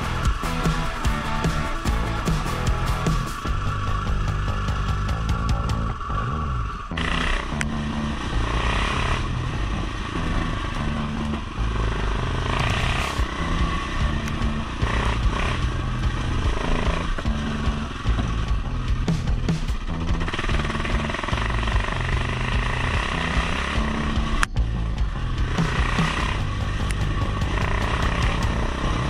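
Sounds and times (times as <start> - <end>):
motorcycle engine running: 0.0 - 29.0
music with stepped bass line: 0.0 - 29.0.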